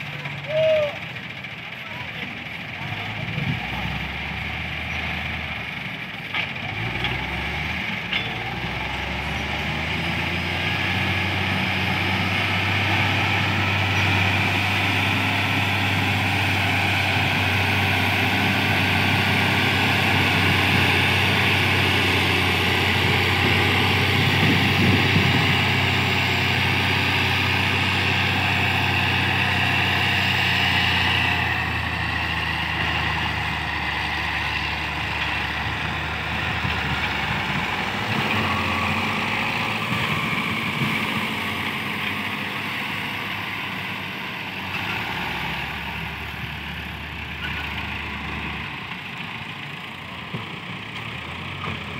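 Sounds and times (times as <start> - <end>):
heavy diesel engine drone: 0.0 - 51.9.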